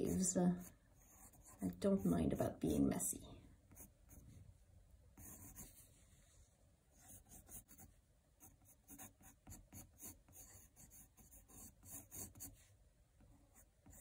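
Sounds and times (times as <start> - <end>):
pencil scratching on paper: 0.0 - 2.8, 3.7 - 4.3, 5.2 - 6.1, 6.9 - 14.0.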